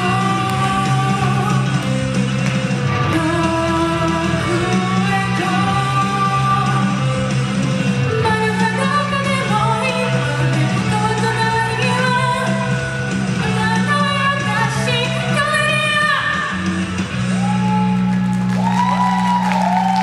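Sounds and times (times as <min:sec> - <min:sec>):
woman singing pop-rock: 0:00.0 - 0:02.2, 0:02.9 - 0:16.7
karaoke backing music: 0:00.0 - 0:20.0.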